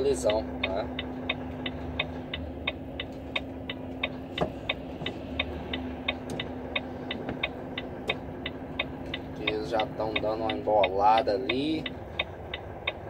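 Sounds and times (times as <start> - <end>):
low engine hum: 0.0 - 13.0
turn signal ticking: 0.0 - 13.0.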